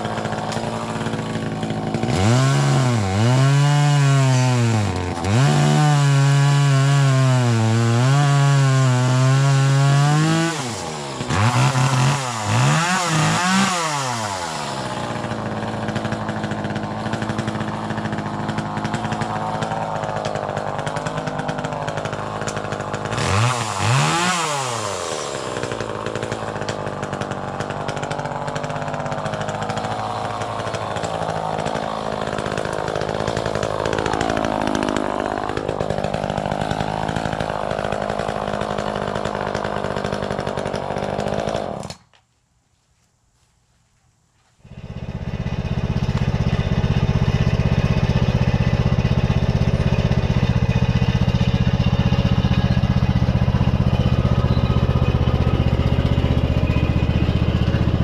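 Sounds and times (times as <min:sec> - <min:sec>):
chainsaw running: 0:00.0 - 0:42.1, 0:44.6 - 0:58.0.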